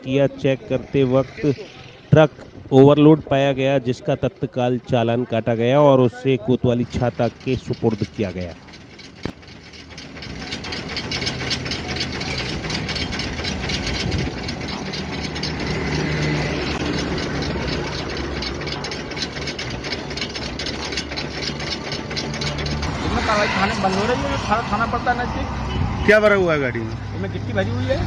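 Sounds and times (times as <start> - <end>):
diesel truck engine idling: 0.0 - 28.0.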